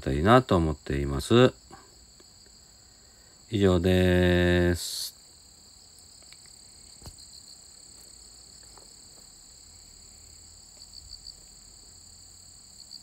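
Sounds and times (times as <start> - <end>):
insects trilling: 0.0 - 13.0
quick insect chirps: 0.0 - 13.0.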